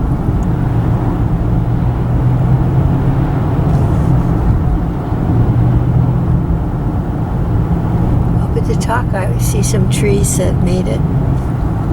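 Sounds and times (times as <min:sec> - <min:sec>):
low engine hum: 0:00.0 - 0:11.9
tyre and road noise: 0:00.0 - 0:11.9.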